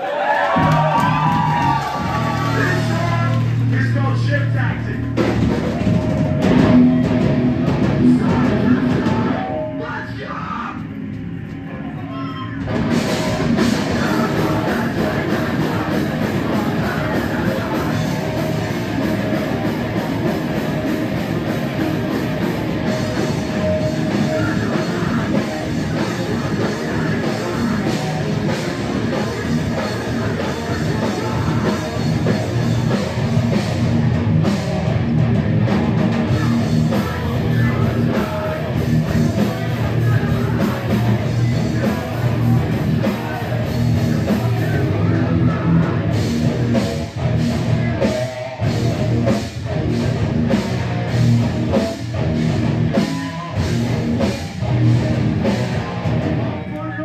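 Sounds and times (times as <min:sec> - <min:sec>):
drum kit: 0:00.4 - 0:10.2, 0:12.5 - 0:56.9
bass guitar: 0:00.4 - 0:57.0
distorted electric guitar: 0:00.6 - 0:57.0.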